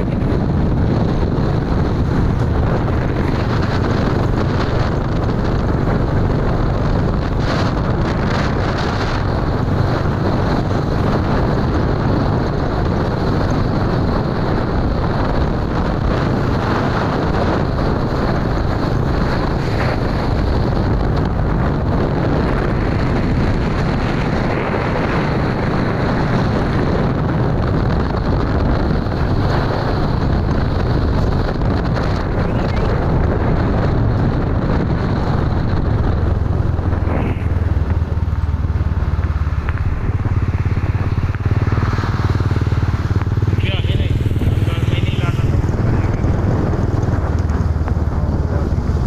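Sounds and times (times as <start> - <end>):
vehicle engine: 0.0 - 49.0
wind rushing over microphone: 0.0 - 49.0.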